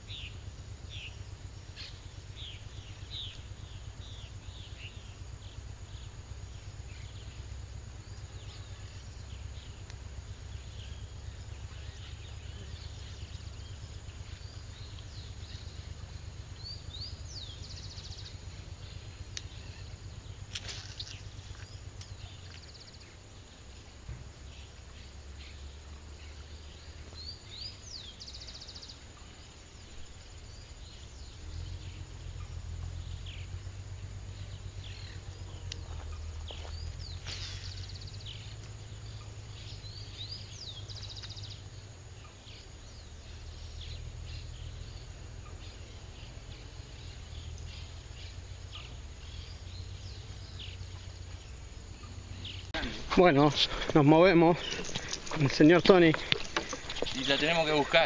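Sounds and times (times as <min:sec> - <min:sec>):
birds chirping: 0:00.0 - 0:58.0
low uneven rumble: 0:00.0 - 0:58.0.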